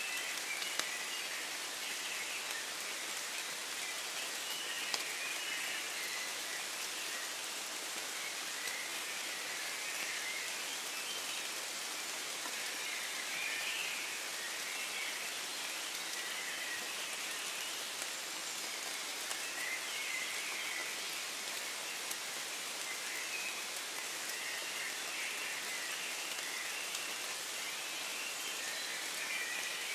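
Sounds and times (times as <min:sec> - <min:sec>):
gentle rain hissing: 0:00.0 - 0:29.9.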